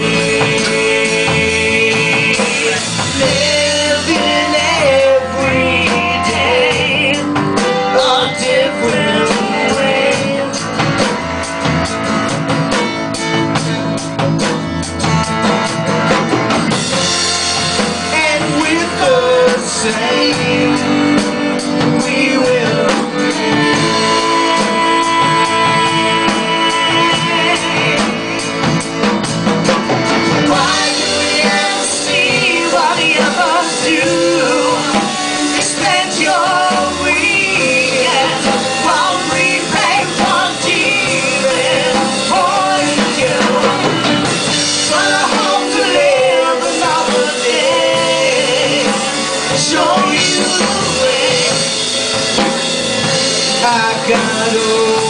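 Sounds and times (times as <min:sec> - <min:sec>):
drum kit: 0:00.0 - 0:55.0
electric guitars: 0:00.0 - 0:55.0
rock band playing live: 0:00.0 - 0:55.0.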